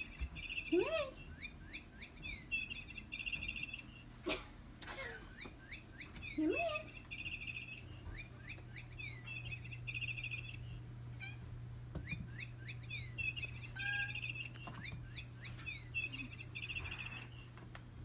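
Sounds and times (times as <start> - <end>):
high bird-like chirps and trills: 0.0 - 4.1, 5.3 - 11.4, 12.0 - 17.5
steady low hum: 0.0 - 18.0.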